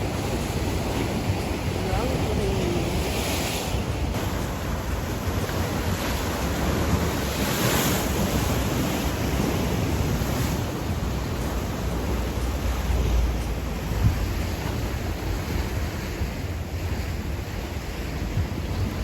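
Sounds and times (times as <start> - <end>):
waves breaking: 0.0 - 19.0
wind buffeting microphone: 0.0 - 19.0.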